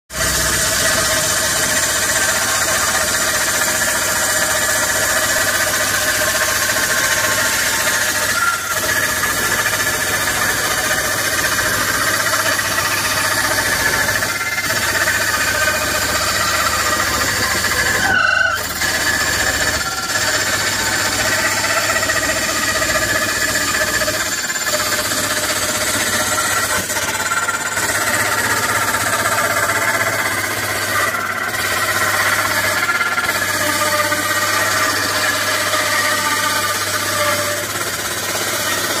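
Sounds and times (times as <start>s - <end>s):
power saw cutting wood: 0.1s - 39.0s.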